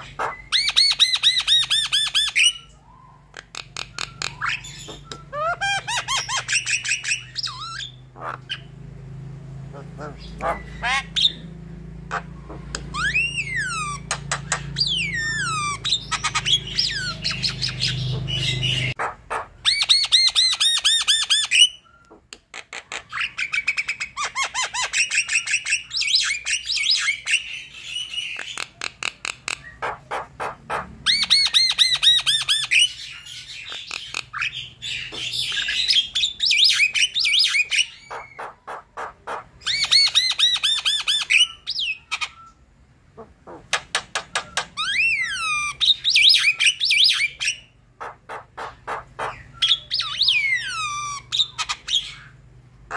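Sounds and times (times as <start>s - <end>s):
bird singing varied song: 0.0s - 52.9s.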